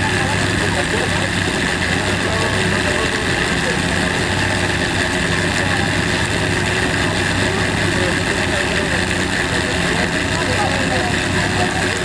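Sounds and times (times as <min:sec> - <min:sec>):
engine running steadily: 0:00.0 - 0:12.0
faint voices: 0:00.0 - 0:12.0.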